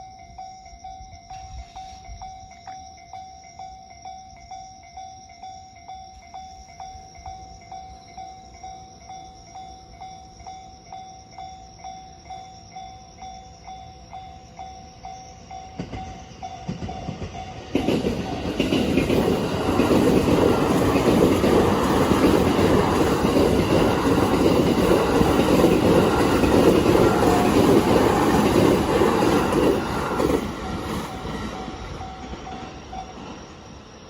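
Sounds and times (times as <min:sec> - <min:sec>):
crossing warning bell dinging: 0:00.0 - 0:33.9
train wheels on rails: 0:00.0 - 0:34.0.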